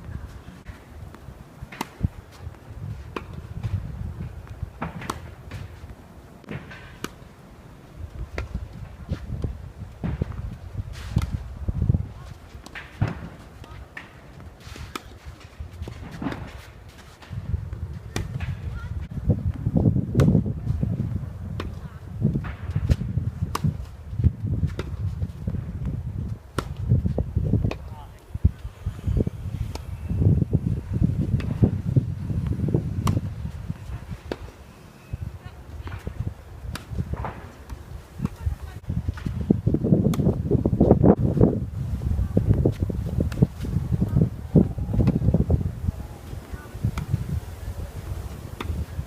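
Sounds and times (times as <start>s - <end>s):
wind on microphone: 0.0s - 6.0s, 7.9s - 49.0s
tennis balls hit by rackets: 0.0s - 7.4s, 8.1s - 41.5s, 42.4s - 49.0s.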